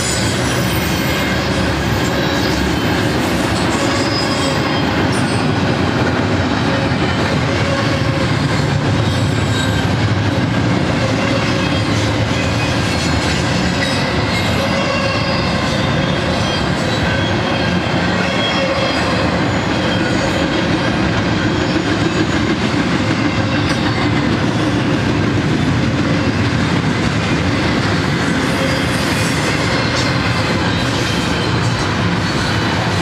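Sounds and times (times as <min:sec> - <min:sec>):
steel wheels running on rails: 0:00.0 - 0:33.0.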